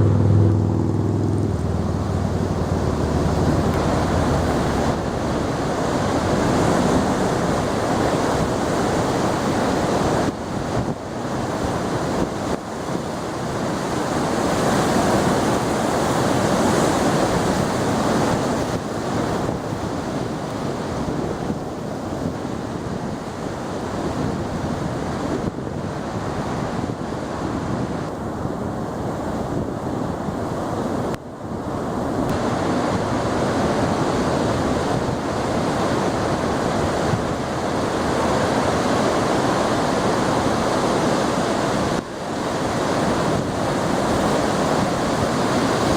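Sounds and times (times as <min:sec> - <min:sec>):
heavy surf breaking: 0:00.0 - 0:45.9
wind on microphone: 0:00.0 - 0:45.9.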